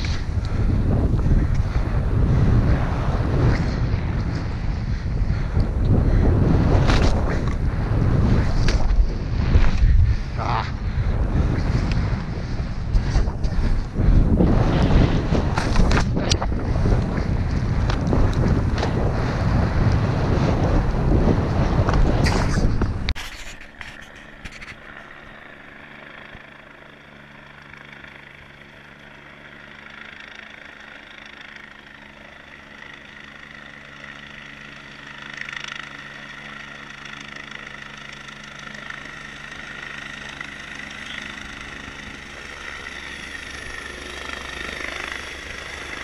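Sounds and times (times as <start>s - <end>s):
helicopter rotor and engine: 0.0s - 46.0s.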